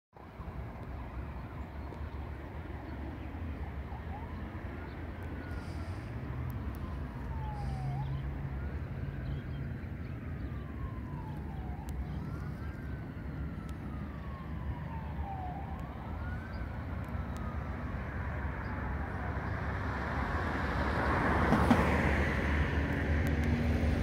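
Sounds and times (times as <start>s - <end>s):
faint siren wailing: 0.2s - 24.0s.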